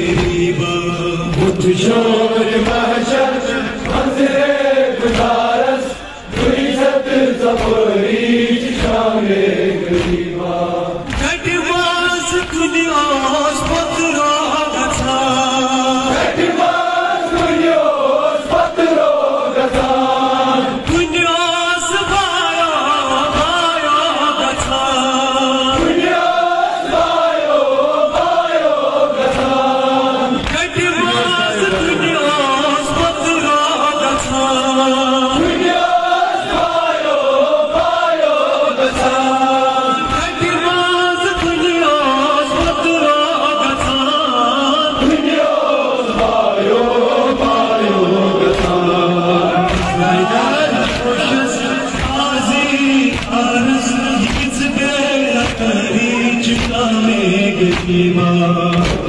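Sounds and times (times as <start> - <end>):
lead reciter on microphone: 0.0 - 59.0
men chanting in unison: 0.0 - 59.0.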